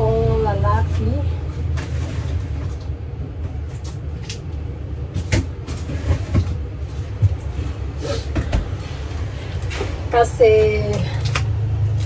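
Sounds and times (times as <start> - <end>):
knocks and rustles of rummaging: 1.0 - 11.4.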